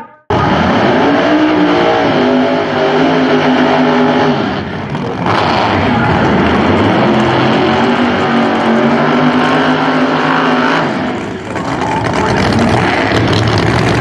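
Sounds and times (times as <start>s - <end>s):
drag car engine at high revs: 0.3s - 14.0s.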